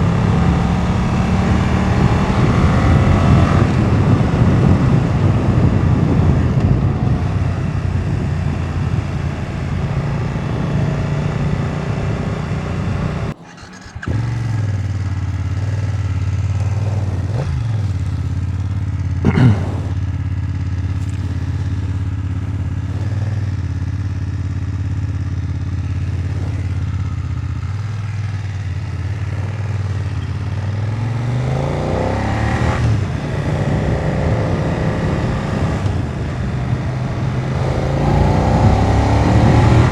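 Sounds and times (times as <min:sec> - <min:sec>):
engine throttle blip: 0:00.0 - 0:39.9
motorcycle engine cruising: 0:00.0 - 0:39.9.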